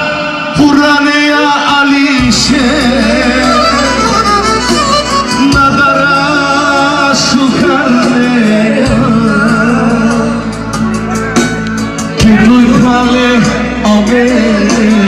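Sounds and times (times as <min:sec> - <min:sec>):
person singing: 0:00.0 - 0:15.0
instrumental backing: 0:01.4 - 0:15.0.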